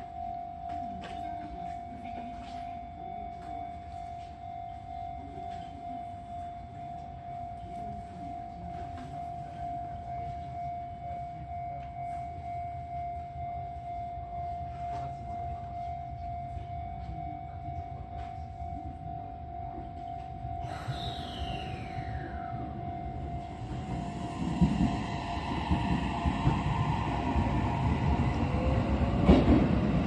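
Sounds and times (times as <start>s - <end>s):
electric train whine: 0.0s - 30.0s.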